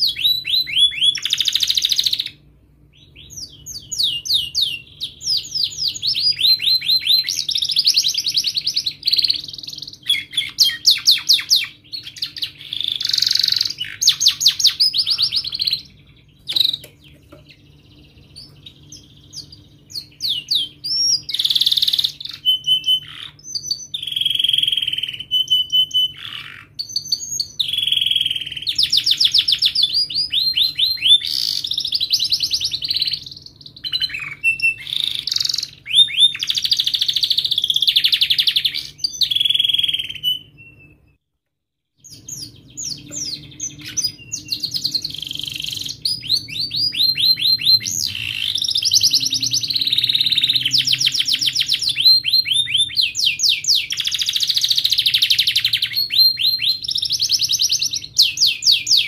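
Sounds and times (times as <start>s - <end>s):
canary singing trills: 0.0s - 41.2s, 42.0s - 59.0s.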